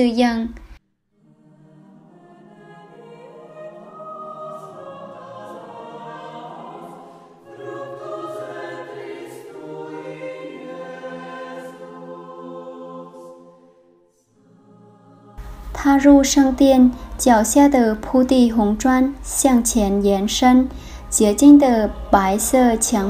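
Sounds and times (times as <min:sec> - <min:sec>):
choir singing: 0:01.2 - 0:23.0.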